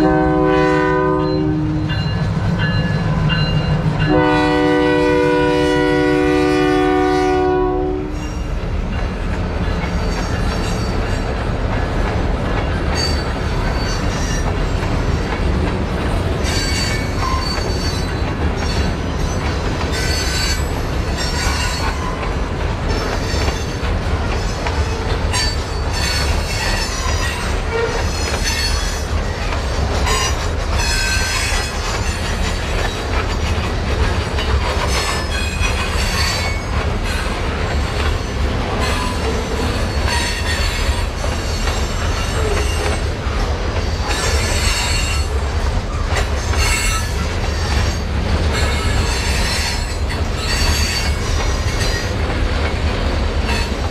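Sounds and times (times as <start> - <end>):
freight train rumbling: 0.0 - 53.9
wheels squealing on rails: 0.0 - 53.9.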